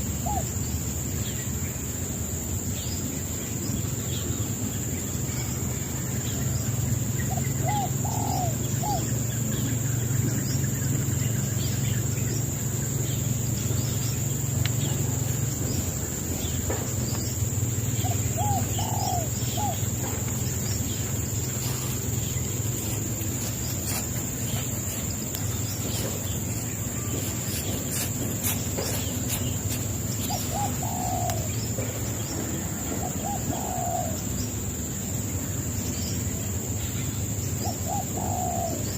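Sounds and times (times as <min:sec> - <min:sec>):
bird calling: 0:00.0 - 0:00.8, 0:05.3 - 0:34.6, 0:37.4 - 0:38.9
high insect drone: 0:00.0 - 0:38.9.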